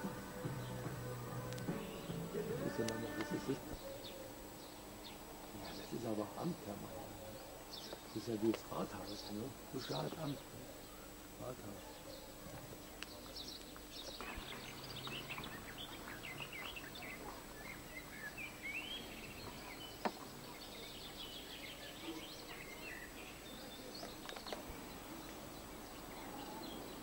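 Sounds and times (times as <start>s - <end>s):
small birds chirping: 0.0s - 27.0s
steady outdoor hiss: 0.0s - 27.0s.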